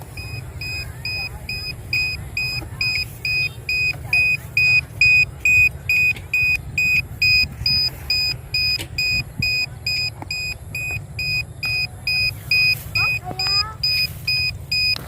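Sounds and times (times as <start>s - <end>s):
high-pitched alarm beeping: 0.0s - 15.0s.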